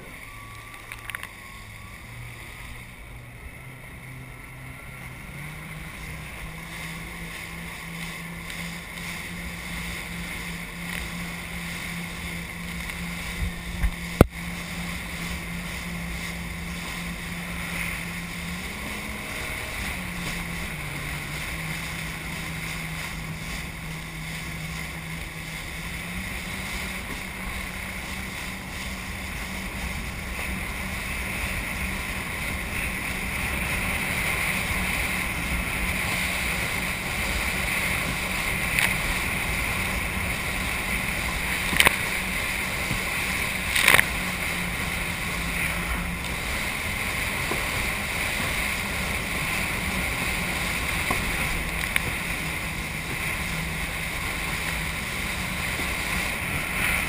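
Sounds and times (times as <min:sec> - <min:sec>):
jet ski engine running: 0:00.0 - 0:57.0
water spray and wind rushing: 0:00.0 - 0:57.0.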